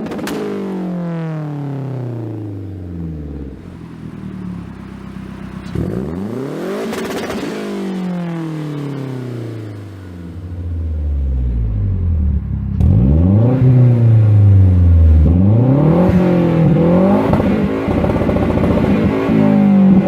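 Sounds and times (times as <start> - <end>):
car engine revving: 1.0 - 20.0.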